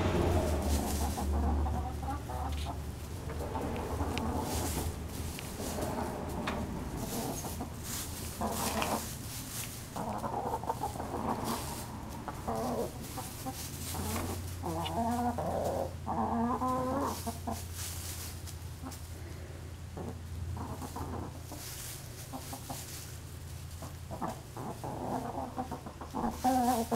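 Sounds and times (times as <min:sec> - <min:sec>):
hens clucking: 0:00.0 - 0:26.9.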